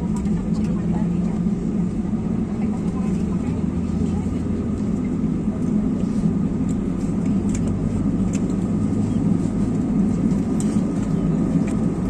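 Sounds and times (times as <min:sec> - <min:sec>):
airliner cabin ventilation drone: 0:00.0 - 0:12.0.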